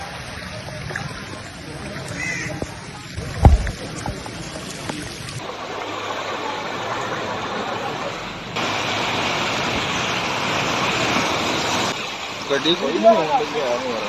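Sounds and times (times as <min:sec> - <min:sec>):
rushing floodwater: 0:00.0 - 0:14.0.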